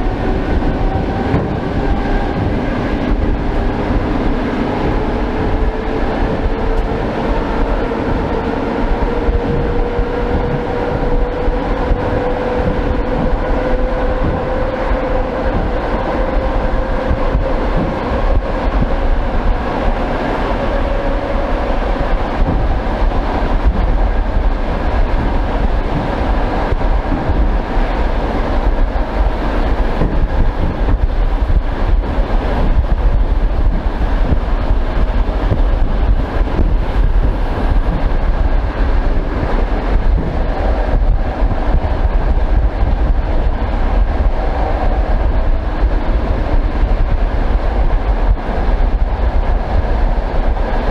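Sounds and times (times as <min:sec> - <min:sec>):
wheels clacking over rail joints: 0:00.0 - 0:49.4
train rumble: 0:00.0 - 0:50.9.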